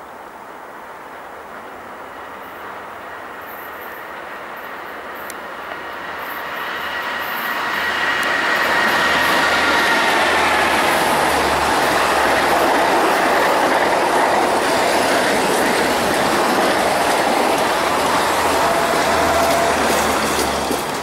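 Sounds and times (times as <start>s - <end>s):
train wheels rushing on rail: 0.4s - 21.0s.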